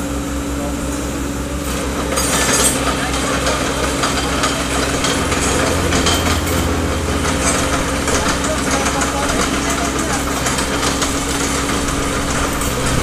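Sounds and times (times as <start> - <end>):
diesel engine running: 0.0 - 13.0
mechanical and hydraulic noise: 0.0 - 13.0.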